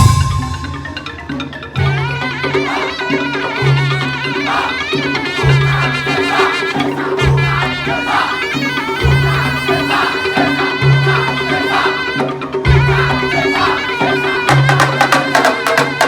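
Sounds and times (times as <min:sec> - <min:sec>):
reedy wind instrument melody: 0:00.0 - 0:16.0
steady held tones: 0:01.8 - 0:15.5.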